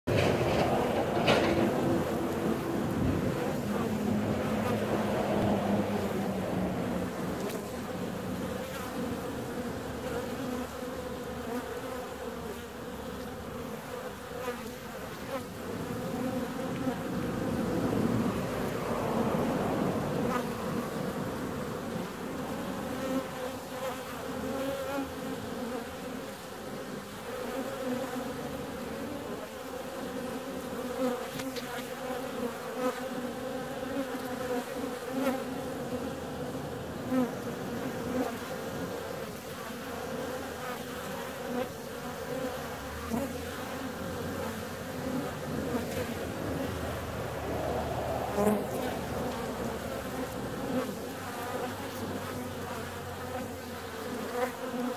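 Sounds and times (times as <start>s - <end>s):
bees buzzing: 0.1s - 54.9s.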